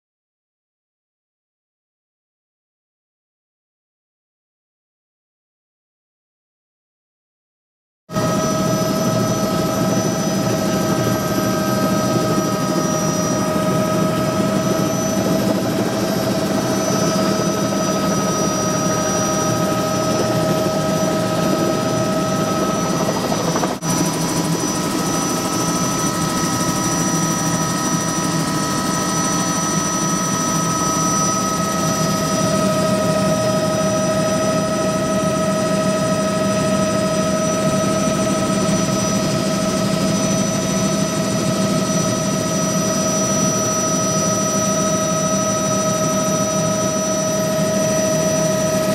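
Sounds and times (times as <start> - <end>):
helicopter engine whine: 8.1 - 48.9
helicopter rotor noise: 8.1 - 48.9.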